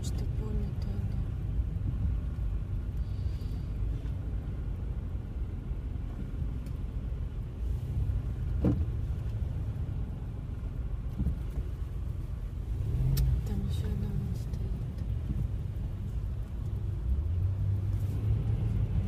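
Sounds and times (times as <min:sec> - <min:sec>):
car engine rumble: 0:00.0 - 0:19.0
road noise: 0:00.0 - 0:19.0.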